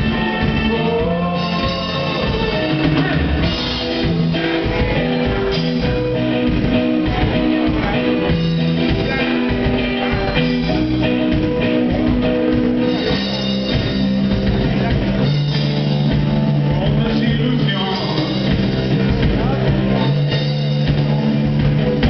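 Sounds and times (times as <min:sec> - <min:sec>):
bass guitar: 0:00.0 - 0:22.0
drum kit: 0:00.0 - 0:22.0
electric guitar: 0:00.0 - 0:22.0.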